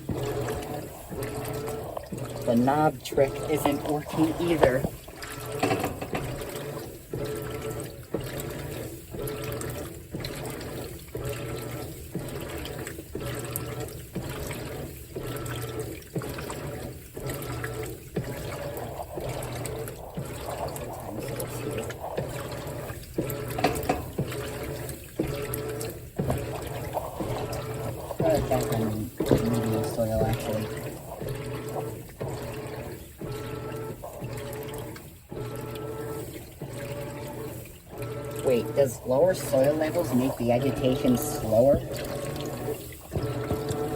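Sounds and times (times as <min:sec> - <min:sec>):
washing machine agitating water: 0:00.0 - 0:43.9.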